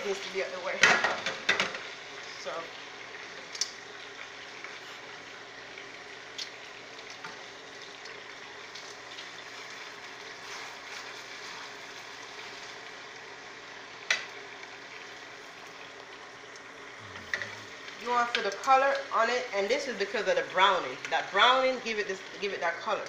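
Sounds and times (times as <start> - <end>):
pots sizzling and bubbling: 0.0 - 23.0.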